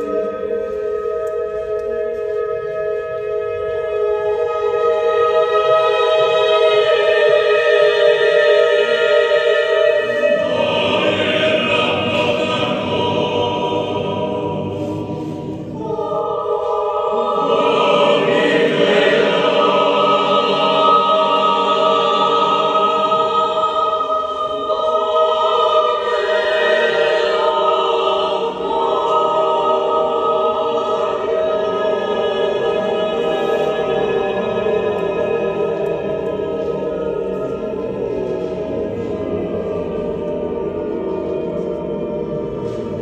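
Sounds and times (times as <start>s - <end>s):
mixed choir singing a cappella: 0.0s - 43.0s.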